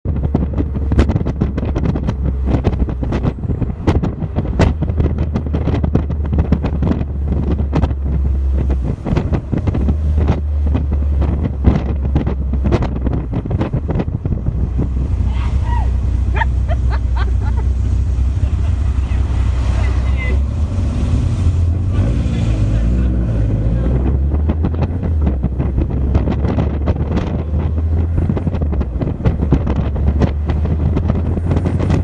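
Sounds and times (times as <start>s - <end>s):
wind buffeting microphone: 0.0s - 32.0s
low engine drone: 0.1s - 32.0s.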